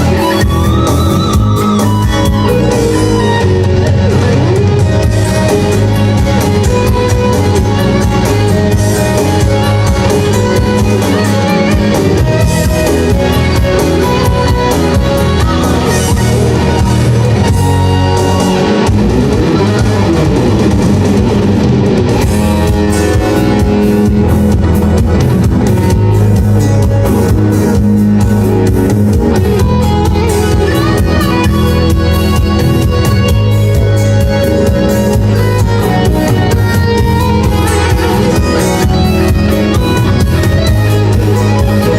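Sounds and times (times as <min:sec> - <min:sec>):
drum kit: 0:00.0 - 0:41.9
electric guitar shredding: 0:00.0 - 0:41.9.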